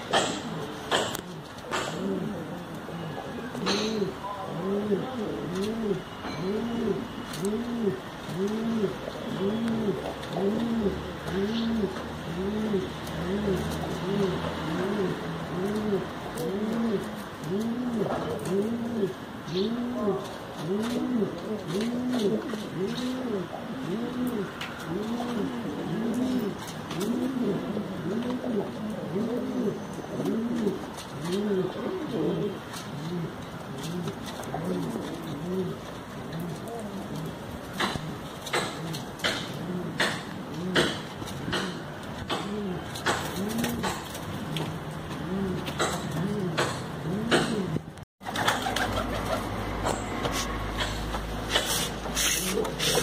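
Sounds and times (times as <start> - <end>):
pigeon cooing: 0.1 - 53.0.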